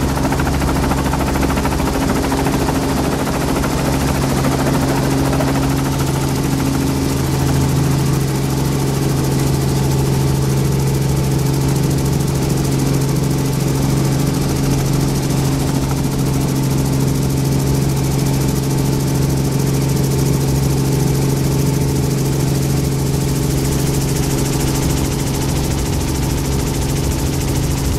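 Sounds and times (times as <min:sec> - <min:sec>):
helicopter engine and rotors drone: 0:00.0 - 0:27.9.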